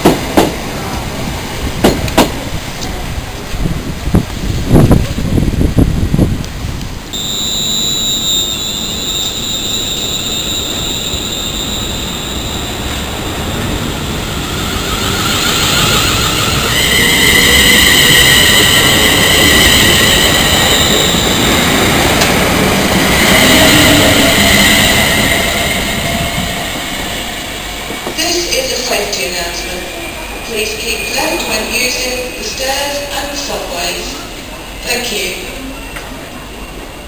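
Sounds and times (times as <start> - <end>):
train wheels rumbling on rails: 0.0 - 7.0, 8.2 - 37.0
high wavering squealing: 7.2 - 37.0.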